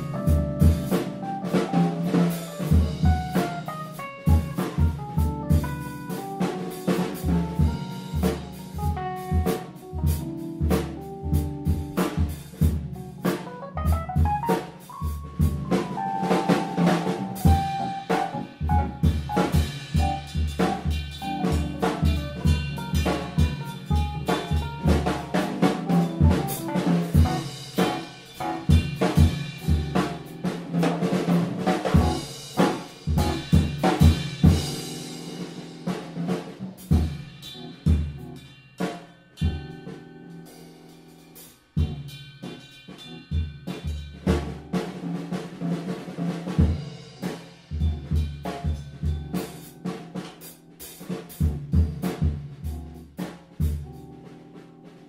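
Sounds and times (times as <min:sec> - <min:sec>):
band music with busy drums: 0:00.0 - 0:55.0.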